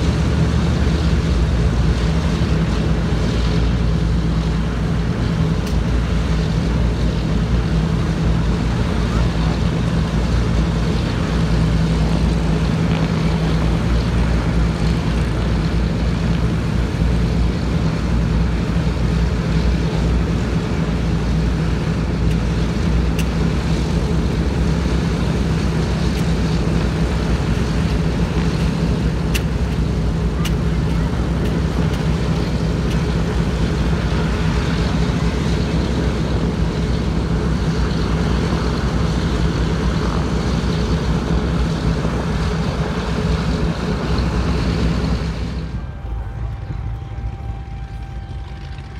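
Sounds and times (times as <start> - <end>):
piston aircraft engines idling: 0.0 - 48.9.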